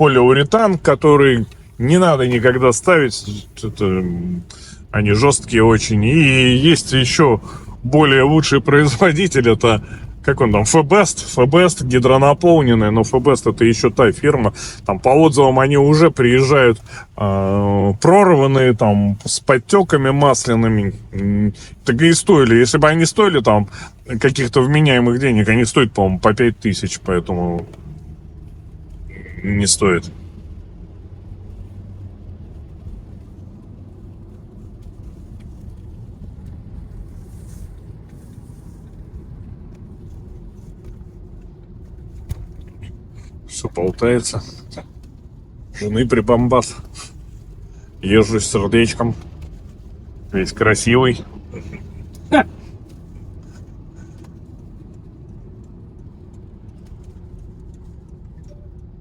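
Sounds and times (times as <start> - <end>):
car cabin road and engine rumble: 0.0 - 59.0.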